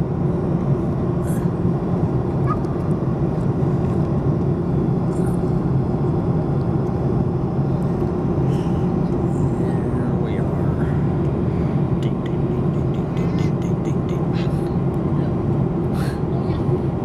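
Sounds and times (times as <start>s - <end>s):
airliner engines droning in cabin: 0.0s - 17.0s.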